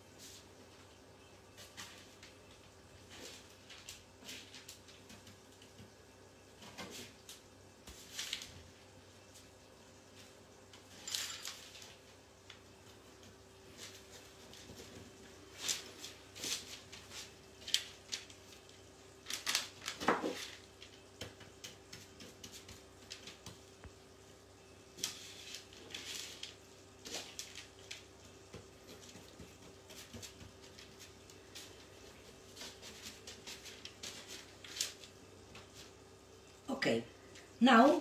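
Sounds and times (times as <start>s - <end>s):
baking paper rustling: 0.0s - 23.8s, 24.9s - 36.1s.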